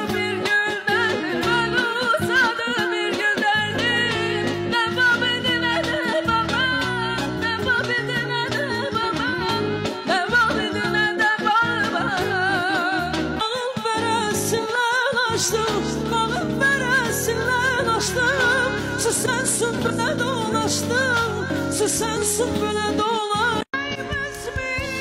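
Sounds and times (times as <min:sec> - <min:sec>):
instrumental accompaniment: 0:00.0 - 0:25.0
woman singing into microphone: 0:00.0 - 0:25.0.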